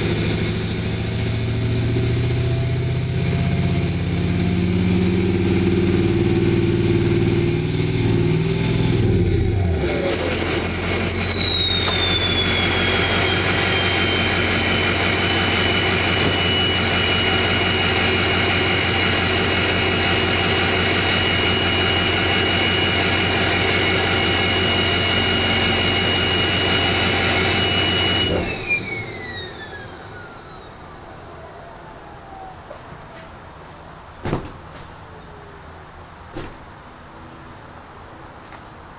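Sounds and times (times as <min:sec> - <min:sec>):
turbocharger whistle: 0:00.0 - 0:33.4
diesel engine idling: 0:00.0 - 0:38.9.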